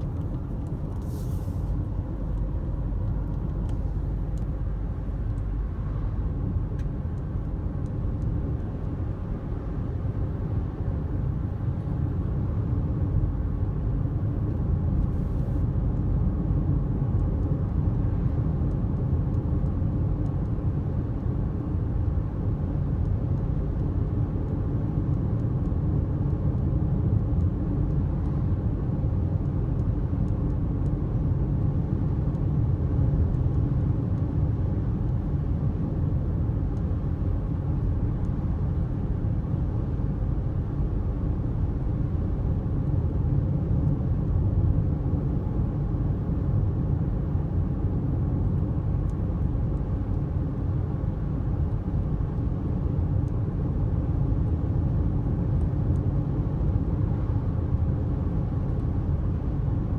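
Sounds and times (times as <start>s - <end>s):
car road noise inside cabin: 0.0s - 59.9s.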